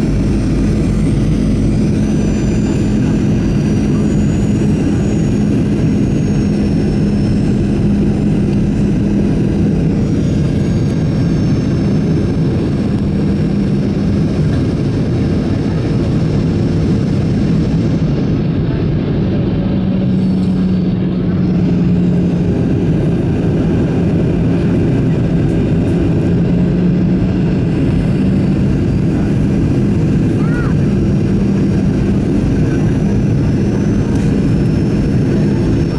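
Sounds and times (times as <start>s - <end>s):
jet engines: 0.0s - 35.9s
low steady drone: 0.0s - 35.9s.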